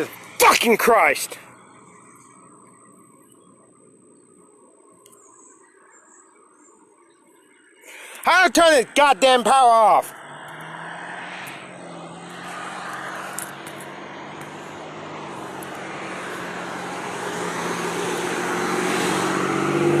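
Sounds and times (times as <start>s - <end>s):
engine drone with low hum: 0.0s - 20.0s.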